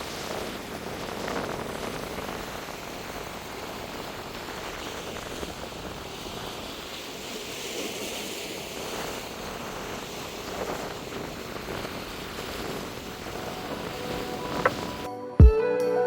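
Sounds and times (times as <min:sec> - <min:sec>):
outdoor ambient noise: 0:00.0 - 0:15.1.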